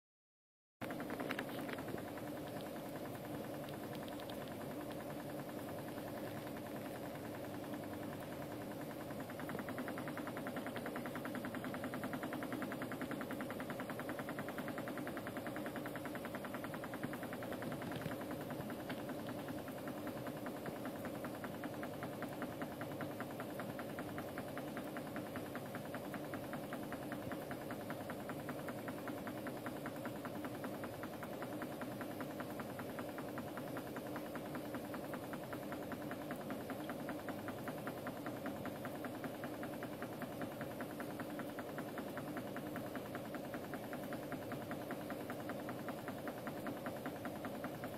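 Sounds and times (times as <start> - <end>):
misting pump buzzing hum: 0.8 - 47.9.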